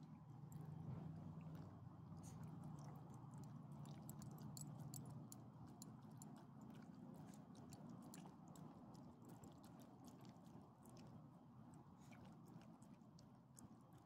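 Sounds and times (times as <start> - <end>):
dogs chewing wetly: 0.0 - 14.0.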